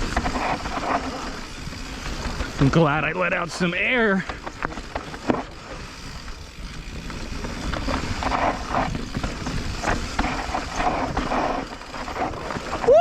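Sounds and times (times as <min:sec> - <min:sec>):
bike knocks and rattles: 0:00.0 - 0:13.0
bike tyres rolling on dirt: 0:00.0 - 0:13.0.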